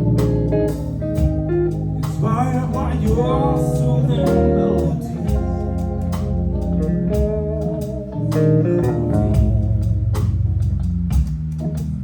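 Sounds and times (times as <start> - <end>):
organ notes: 0.0 - 10.6
bass line: 0.0 - 12.0
drum kit: 0.0 - 12.0
electric guitar: 0.0 - 12.0.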